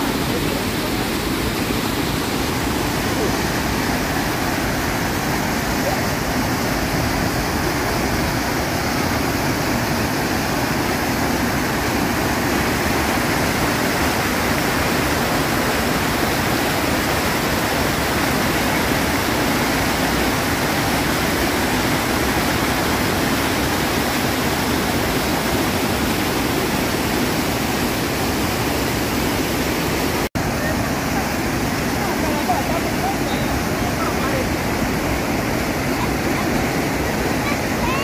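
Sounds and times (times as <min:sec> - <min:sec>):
water rushing over dam spillway: 0:00.0 - 0:38.0.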